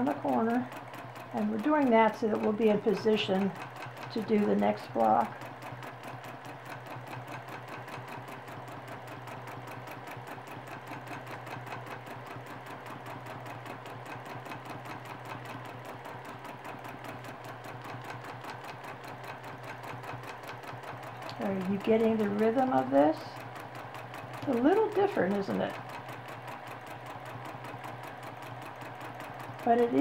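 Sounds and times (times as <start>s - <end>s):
sewing machine stitching: 0.0s - 30.0s.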